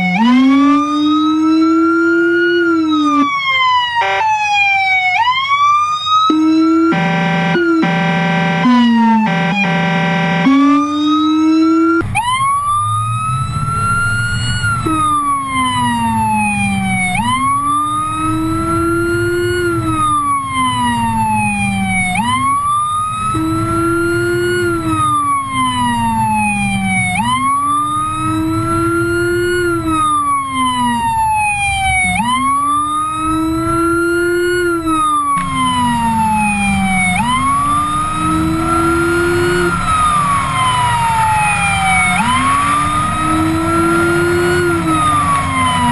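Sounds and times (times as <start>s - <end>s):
engine and road rumble: 0.0s - 45.9s
low-frequency siren tone: 0.0s - 45.9s
police siren wailing: 0.0s - 45.9s.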